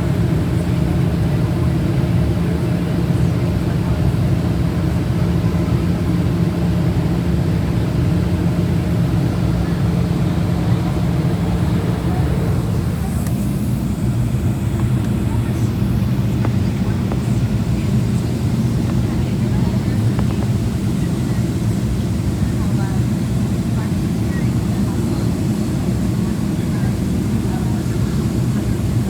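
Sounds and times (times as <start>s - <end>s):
airplane engines droning: 0.0s - 29.0s.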